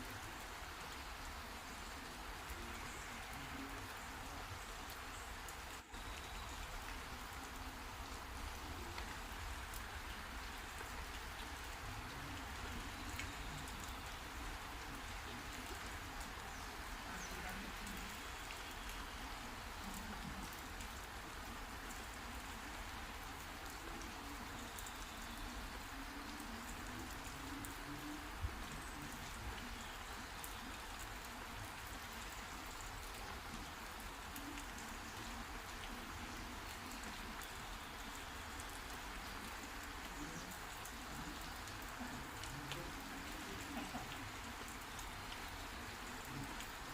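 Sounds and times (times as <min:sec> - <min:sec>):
heavy rain hissing: 0:00.0 - 0:46.9
raindrop ticks: 0:00.0 - 0:46.9.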